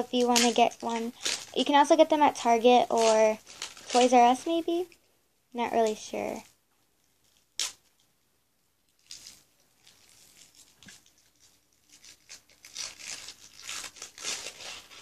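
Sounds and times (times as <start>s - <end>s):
plastic wrapping crinkling and tearing: 0.0s - 5.0s, 7.0s - 8.1s, 8.9s - 15.0s.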